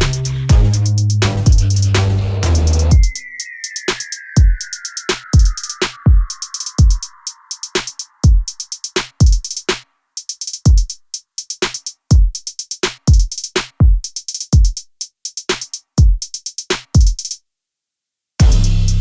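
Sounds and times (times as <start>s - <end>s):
electronic drum machine beat: 0.0s - 17.4s, 18.4s - 19.0s.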